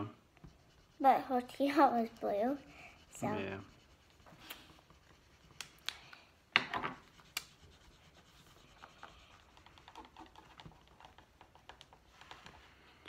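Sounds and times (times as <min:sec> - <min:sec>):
markers scratching on paper: 0:00.4 - 0:05.9, 0:07.0 - 0:12.4.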